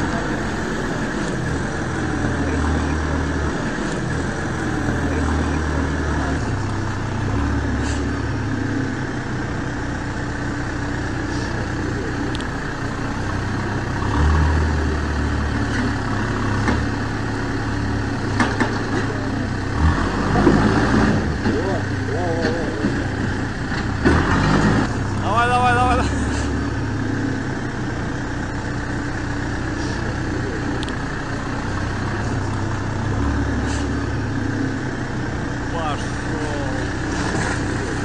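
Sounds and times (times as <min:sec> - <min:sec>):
backhoe diesel engine revving: 0:00.0 - 0:38.0.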